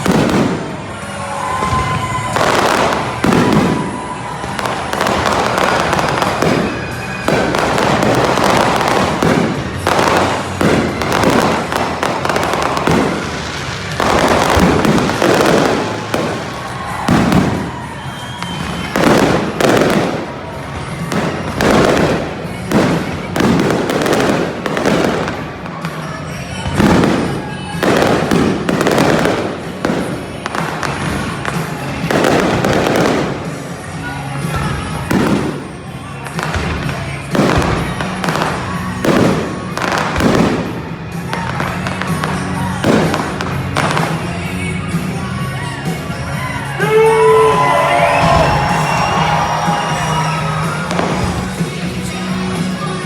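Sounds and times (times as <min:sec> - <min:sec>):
fireworks bangs and crackle: 0:00.0 - 0:53.0
rock music over stadium speakers: 0:00.0 - 0:53.0.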